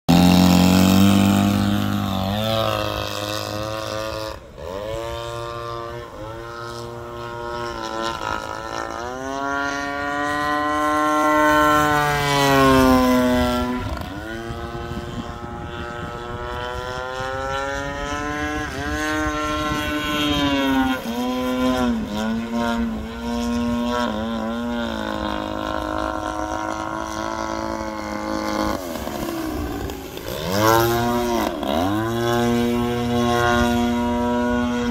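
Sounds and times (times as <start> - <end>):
model plane engine: 0.1 - 34.9.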